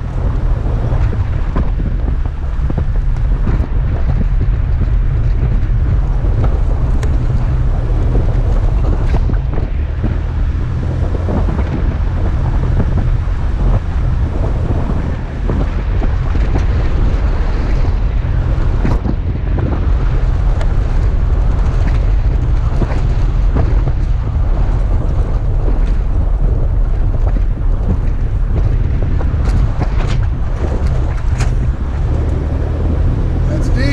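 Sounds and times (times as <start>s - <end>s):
vehicle engine rumble: 0.0s - 33.9s
wind buffeting microphone: 0.0s - 33.9s.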